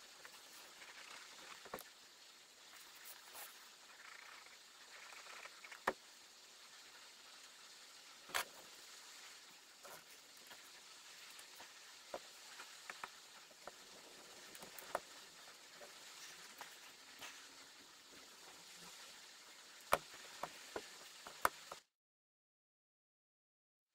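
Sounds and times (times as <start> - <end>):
low hiss: 0.0 - 21.9.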